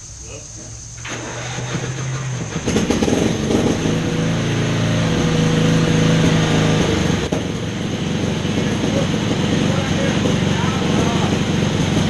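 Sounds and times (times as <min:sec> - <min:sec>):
lawn mower engine running: 0:00.9 - 0:12.0.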